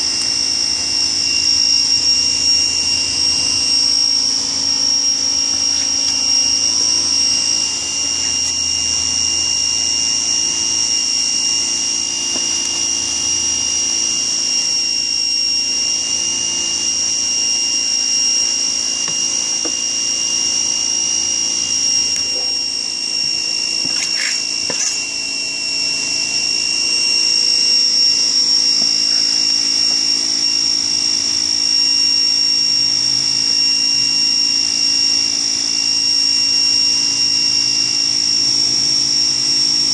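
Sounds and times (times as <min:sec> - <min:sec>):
high-pitched machine whine: 0:00.0 - 0:39.9.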